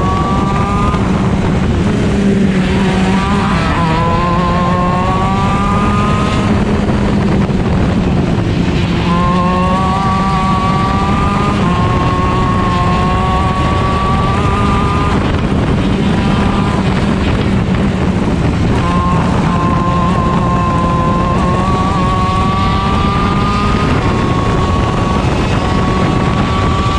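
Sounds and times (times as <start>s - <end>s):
kart engine at racing speed: 0.0s - 26.9s
wind and road noise: 0.0s - 26.9s.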